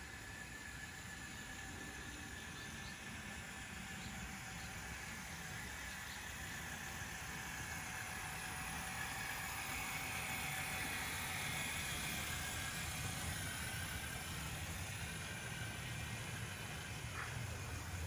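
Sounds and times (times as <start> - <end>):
toy train motors whirring: 0.0 - 18.0
wheels rumbling over track: 0.0 - 18.0.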